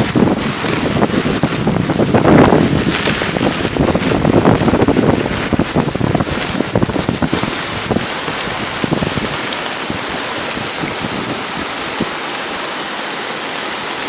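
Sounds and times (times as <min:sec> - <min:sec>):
rain: 0:00.0 - 0:14.0
storm water rushing: 0:00.0 - 0:14.0
wind buffeting microphone: 0:00.0 - 0:14.0.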